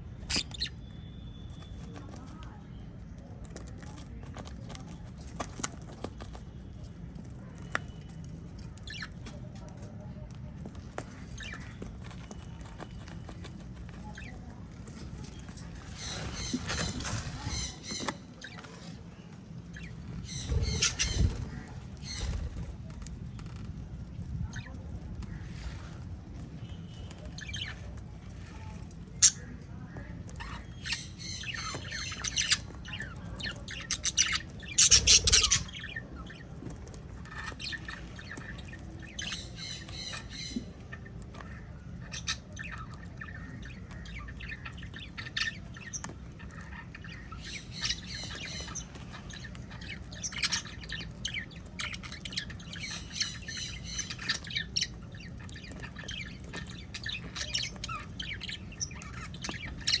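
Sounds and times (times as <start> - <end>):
birds chirping and squawking: 0.0 - 60.0.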